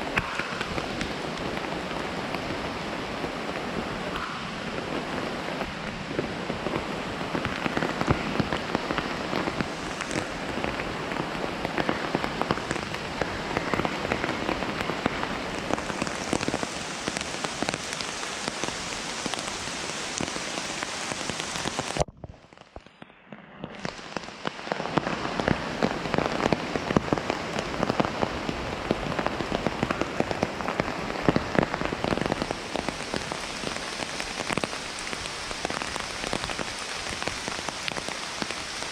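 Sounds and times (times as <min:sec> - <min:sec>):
heavy rain on foliage: 0:00.0 - 0:22.8, 0:23.7 - 0:38.9.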